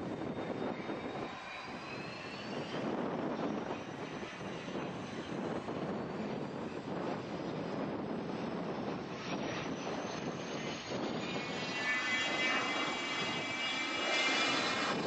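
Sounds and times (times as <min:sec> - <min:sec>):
high turbine whine: 0:00.0 - 0:15.0
jet engines rumbling: 0:00.0 - 0:15.0.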